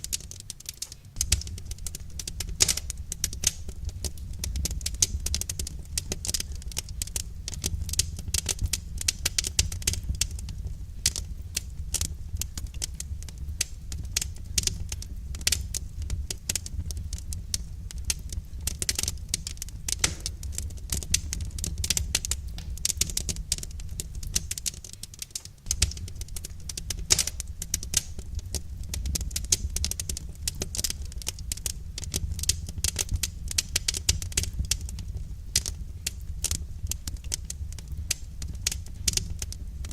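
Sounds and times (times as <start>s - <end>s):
low steady rumble: 0.0s - 39.9s
wood fire crackling: 0.0s - 39.9s.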